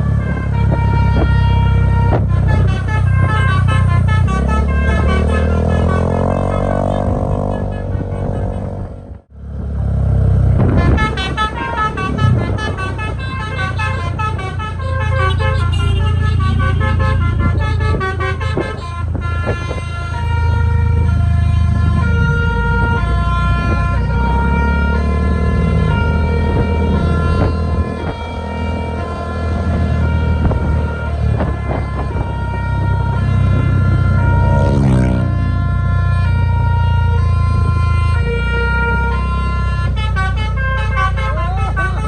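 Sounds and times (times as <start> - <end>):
multi-tone bus horn tune: 0.0 - 9.3, 10.5 - 42.0
diesel engine running: 0.0 - 42.0.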